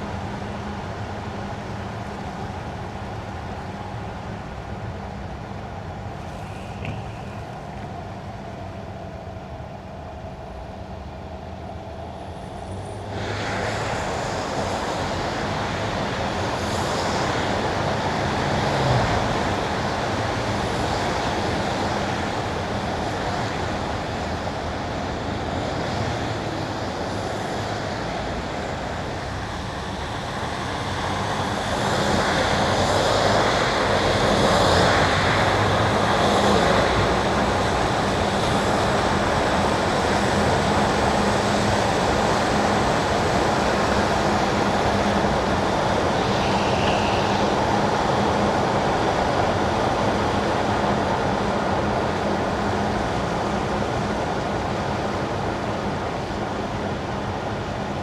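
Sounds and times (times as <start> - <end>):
tyres hissing on wet road: 6.0 - 7.9, 12.3 - 58.0.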